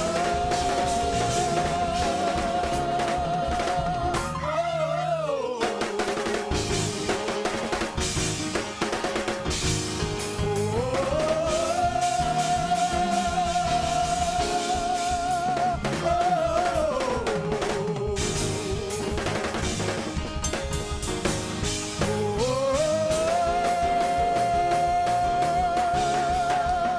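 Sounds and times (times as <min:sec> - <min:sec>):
drum kit playing: 0:00.0 - 0:04.6, 0:05.6 - 0:26.9.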